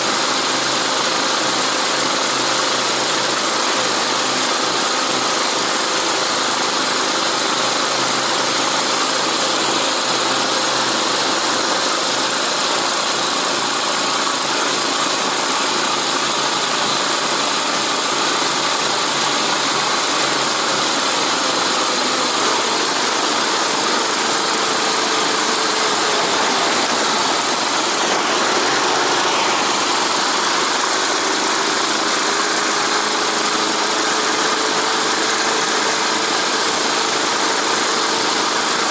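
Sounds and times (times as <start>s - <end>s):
constant noisy rush: 0.0s - 38.9s
snow tow engine running: 0.0s - 38.9s.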